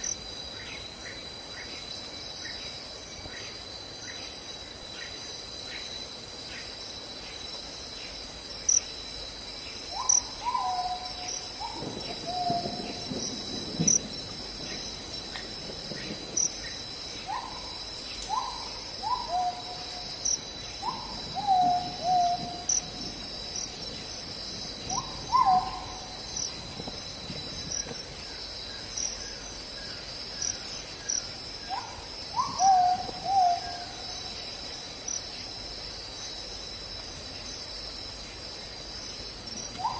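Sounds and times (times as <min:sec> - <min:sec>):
night insects chirring: 0:00.0 - 0:39.9.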